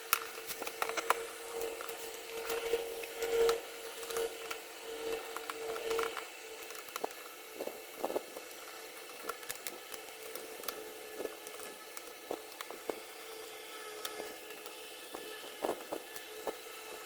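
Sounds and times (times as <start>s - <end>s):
screwdriver clicks and scrapes on plastic: 0.0s - 13.3s, 13.9s - 17.0s
faint steady hum: 0.0s - 17.0s.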